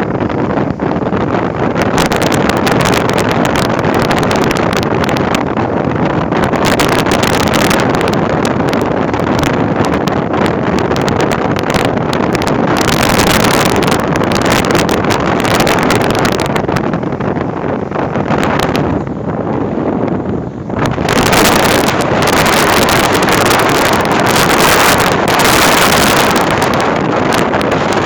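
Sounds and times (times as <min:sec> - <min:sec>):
sea surf breaking on beach: 0:00.0 - 0:28.0
storm wind buffeting microphone: 0:00.0 - 0:28.0.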